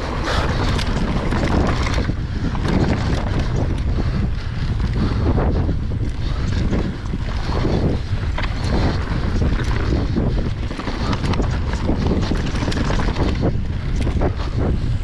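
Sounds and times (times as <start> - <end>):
tyres rumbling on rock and dirt: 0.0 - 14.7
bike rattling over stones: 0.0 - 15.0
wind buffeting microphone: 0.0 - 15.0.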